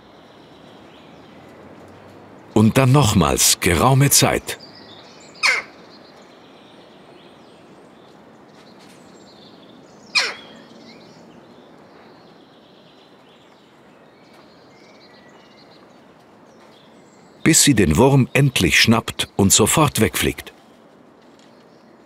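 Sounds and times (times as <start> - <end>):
outdoor background hiss: 0.0 - 22.0
small birds chirping: 2.5 - 22.0.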